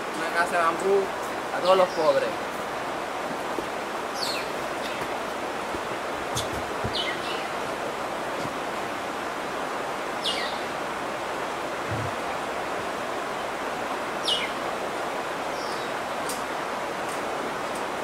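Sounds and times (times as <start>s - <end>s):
steady rushing background noise: 0.0s - 15.5s.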